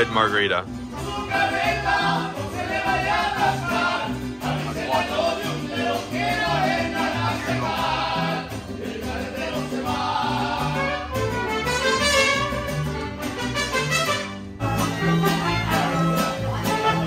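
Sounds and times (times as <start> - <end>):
mariachi band playing: 0.0 - 17.0.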